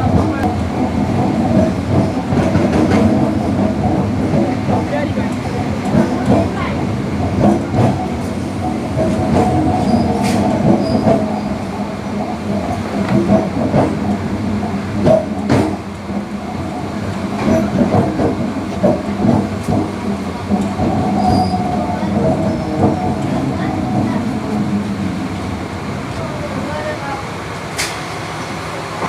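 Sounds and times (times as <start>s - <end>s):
train rumble and rattle: 0.0s - 29.0s.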